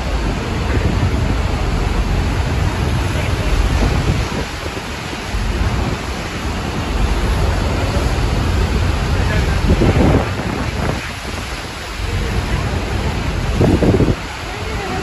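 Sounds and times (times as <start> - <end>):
waterfall rushing: 0.0 - 15.0
wind rumbling on microphone: 0.0 - 15.0.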